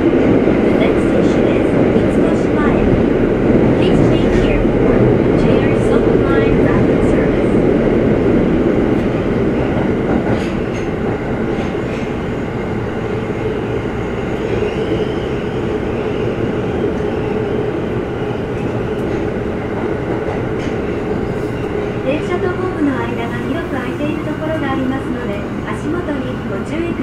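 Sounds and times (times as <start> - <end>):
subway car rumbling in tunnel: 0.0 - 27.0.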